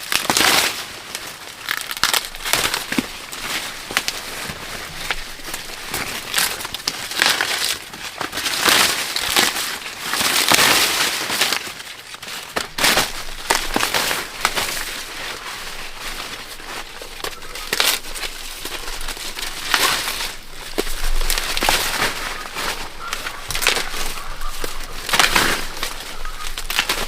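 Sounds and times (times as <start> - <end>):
dry corn husks rustling: 0.0 - 27.0.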